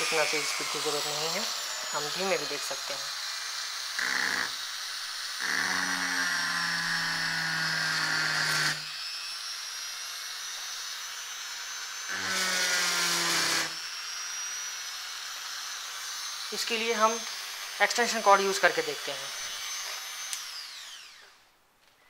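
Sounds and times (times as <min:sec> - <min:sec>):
die grinder grinding glass: 0:00.0 - 0:21.3.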